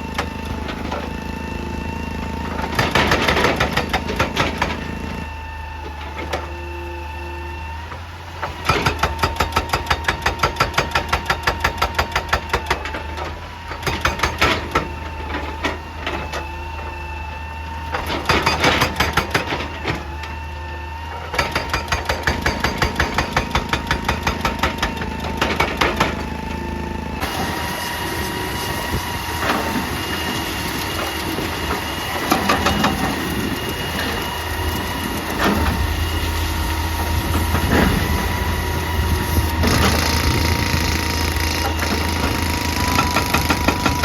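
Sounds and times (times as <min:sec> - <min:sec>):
excavator engine under load: 0:00.0 - 0:44.0
hydraulic breaker hammering rock: 0:02.2 - 0:05.3, 0:08.4 - 0:16.9, 0:17.8 - 0:20.4, 0:21.0 - 0:44.0.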